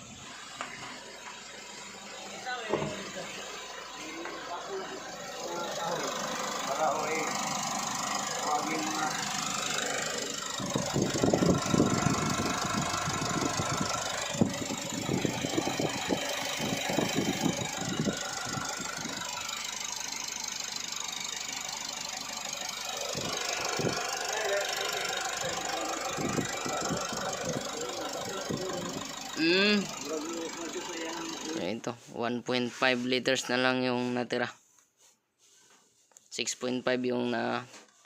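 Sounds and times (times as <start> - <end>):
diesel engine idling: 0.0 - 34.2.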